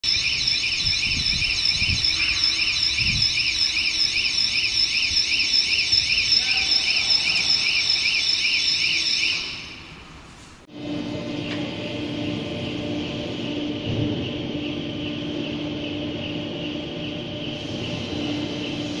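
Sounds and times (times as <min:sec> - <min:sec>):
warbling warning alarm: 0:00.0 - 0:10.0, 0:10.7 - 0:19.0.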